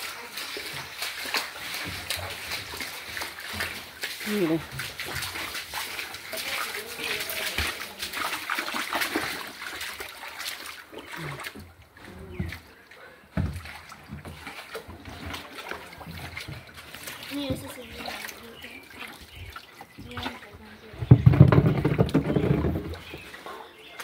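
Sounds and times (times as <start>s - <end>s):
feet splashing through water: 0.0s - 24.0s.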